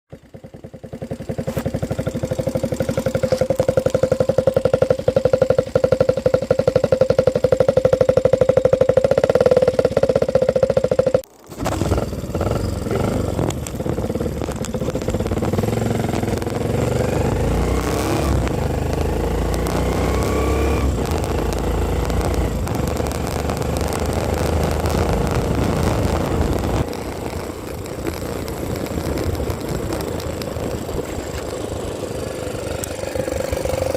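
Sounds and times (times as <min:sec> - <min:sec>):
vehicle engine idling: 0:00.1 - 0:33.9
engine revving: 0:01.4 - 0:33.9.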